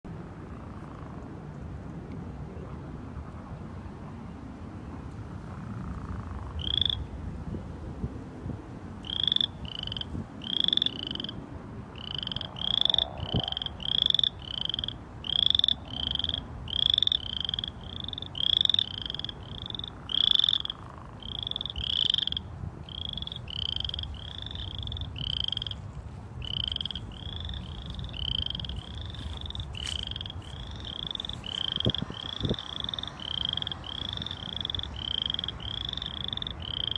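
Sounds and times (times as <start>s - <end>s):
frogs calling: 5.4s - 7.2s, 9.0s - 36.9s.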